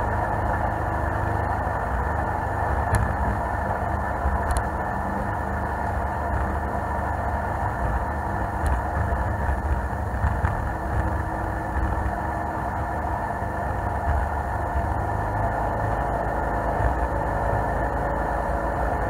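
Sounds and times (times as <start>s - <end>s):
boat engine rumble: 0.0s - 19.0s.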